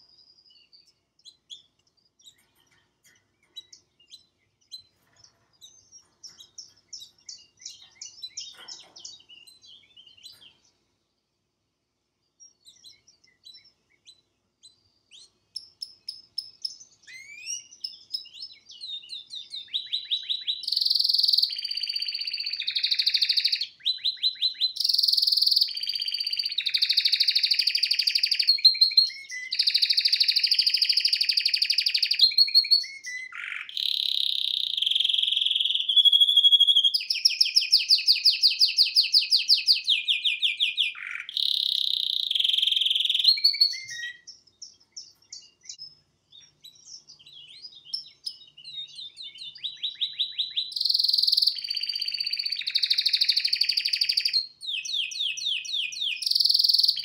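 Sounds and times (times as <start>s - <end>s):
canary singing: 0.0s - 10.8s, 12.3s - 57.0s.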